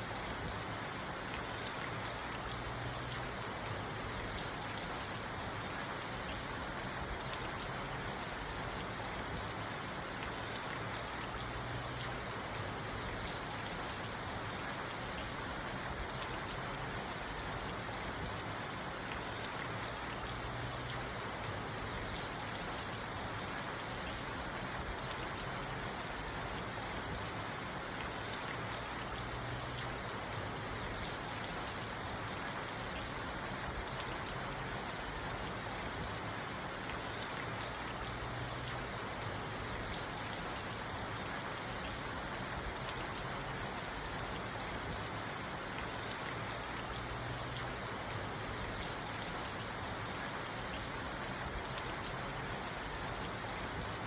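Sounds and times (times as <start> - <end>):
rain pattering on a car roof: 0.0 - 54.0.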